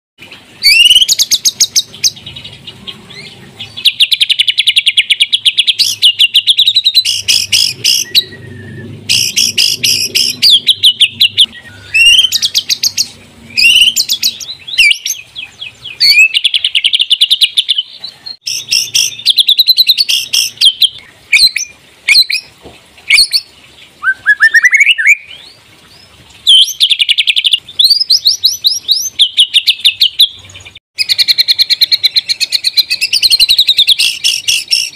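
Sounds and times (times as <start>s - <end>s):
songbird singing whistles and trills: 0.6s - 22.5s, 23.1s - 25.6s, 26.5s - 34.9s.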